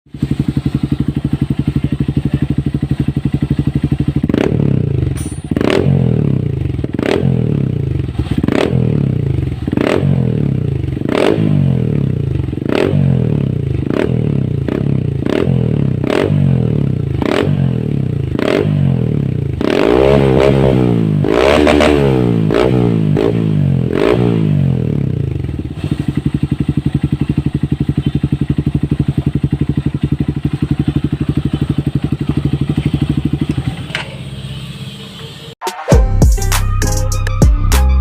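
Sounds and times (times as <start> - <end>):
motorcycle engine revving: 0.1 - 35.6.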